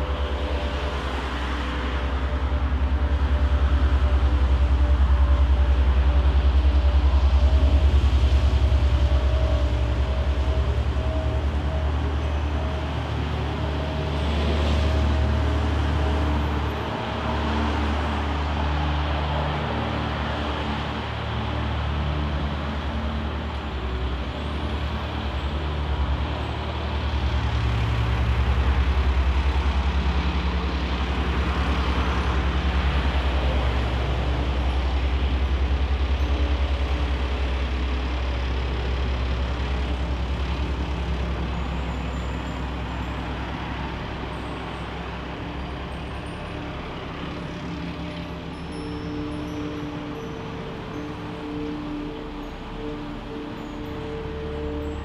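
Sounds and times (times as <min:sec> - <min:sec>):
large vehicle engine hum: 0:00.0 - 0:55.0.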